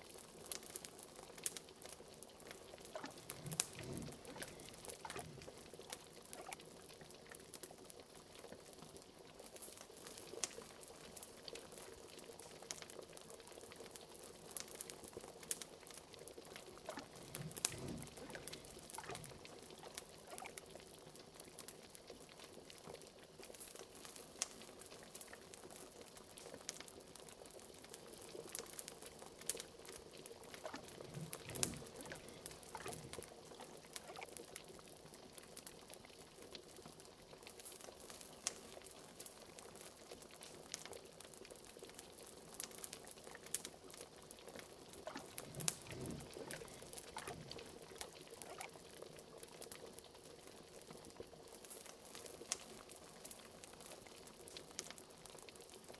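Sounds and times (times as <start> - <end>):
fireplace crackles: 0.0 - 55.9
liquid boiling and bubbling: 0.0 - 55.9.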